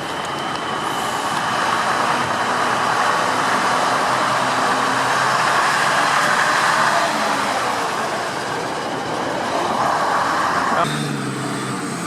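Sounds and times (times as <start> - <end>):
large vehicle engine running: 0.0 - 12.0.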